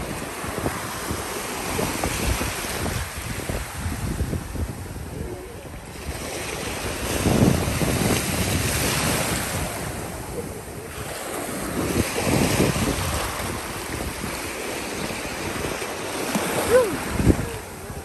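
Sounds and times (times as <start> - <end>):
sea waves washing on beach: 0.0 - 18.0
wind buffeting microphone: 0.0 - 18.0.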